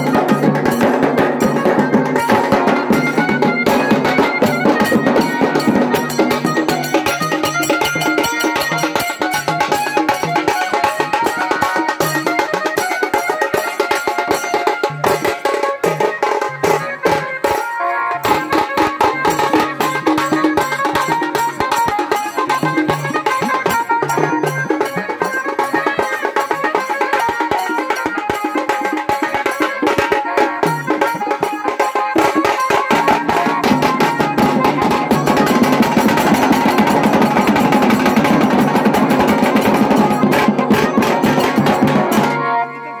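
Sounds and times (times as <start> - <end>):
drums beaten with sticks: 0.0 - 42.4.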